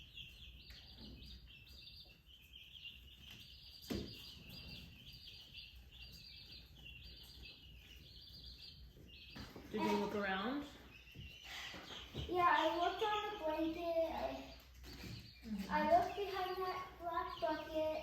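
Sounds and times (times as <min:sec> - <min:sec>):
birds chirping buzzy phrases: 0:00.0 - 0:18.0.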